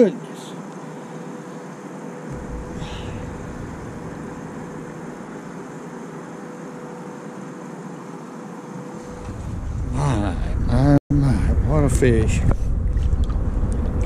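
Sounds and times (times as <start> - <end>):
steady background hiss: 0.0 - 12.8
faint constant hum: 0.0 - 14.0.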